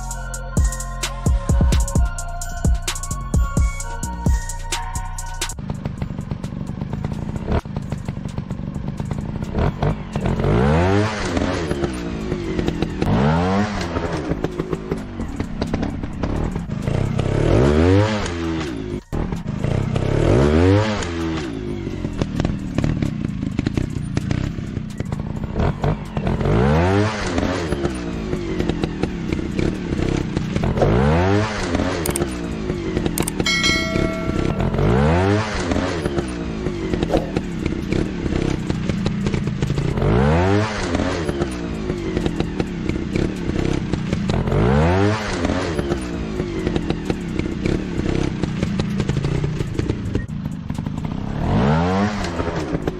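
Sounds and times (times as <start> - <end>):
motorcycle engine revving: 2.8 - 52.9.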